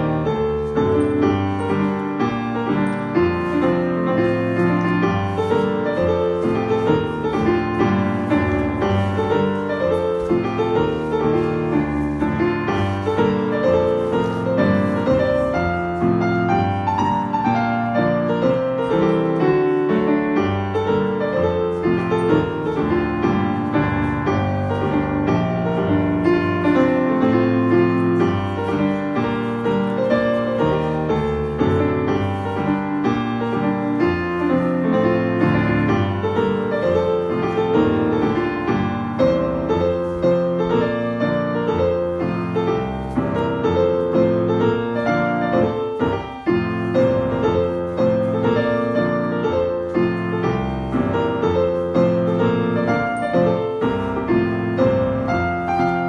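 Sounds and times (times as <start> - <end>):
country dance music: 0.0 - 56.0
piano: 0.0 - 56.0.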